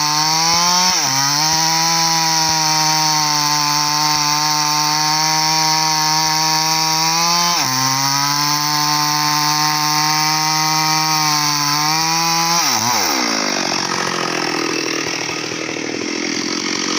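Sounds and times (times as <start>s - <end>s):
chainsaw cutting wood: 0.0s - 16.9s.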